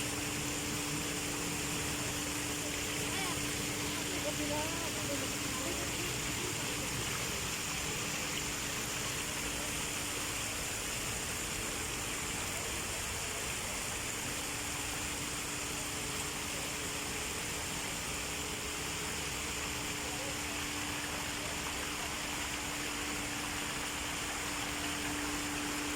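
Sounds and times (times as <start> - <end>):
faint steady hum: 0.0 - 25.9
flowing water rushing: 0.0 - 25.9.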